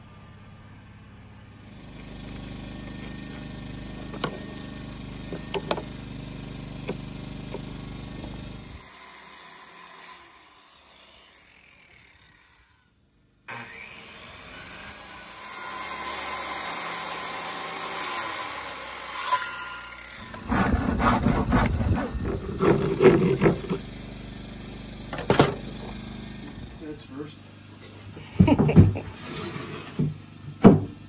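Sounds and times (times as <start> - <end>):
circular saw cutting board: 2.1 - 24.0, 27.6 - 30.8.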